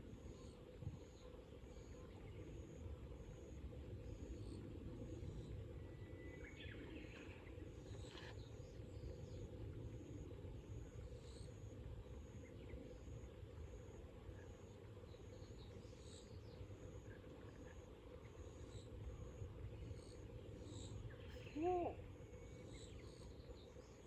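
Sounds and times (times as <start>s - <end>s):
insect chirping: 0.2s - 24.0s.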